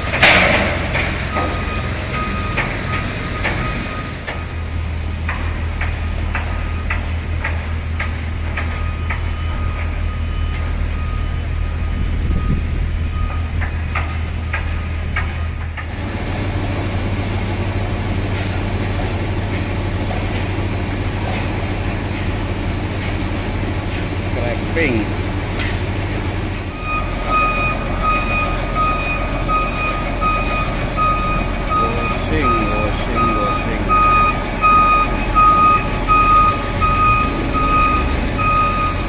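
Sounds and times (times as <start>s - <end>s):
machinery droning: 0.0s - 39.0s.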